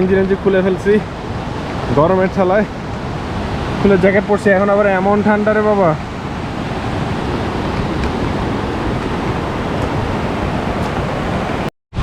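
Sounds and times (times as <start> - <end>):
heavy rain: 0.0 - 12.0
waterfall rushing: 0.0 - 12.0.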